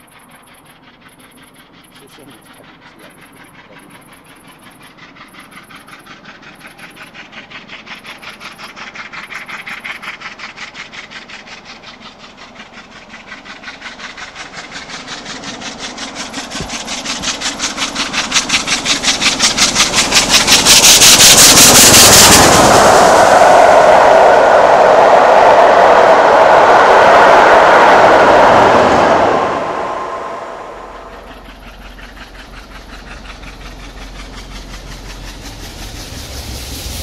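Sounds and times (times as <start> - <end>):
steam locomotive exhaust chuffs: 0.0 - 37.0.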